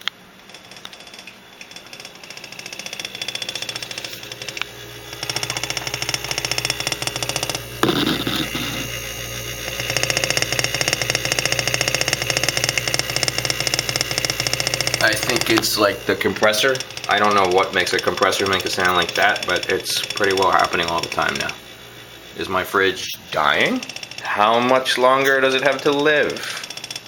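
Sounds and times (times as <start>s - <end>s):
refrigerator hum: 0.0s - 27.0s.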